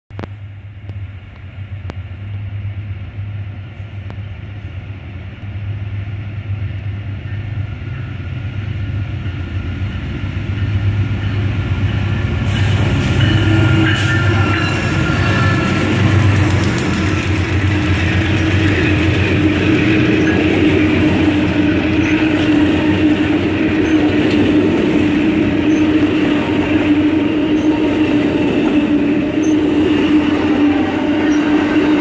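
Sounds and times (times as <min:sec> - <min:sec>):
diesel locomotive engine hum: 0:00.1 - 0:32.0
train wheel and rail noise: 0:00.1 - 0:32.0.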